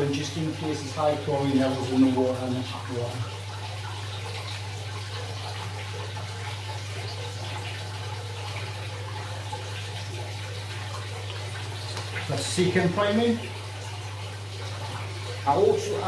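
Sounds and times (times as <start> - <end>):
water splashing into aquarium: 0.0 - 16.0.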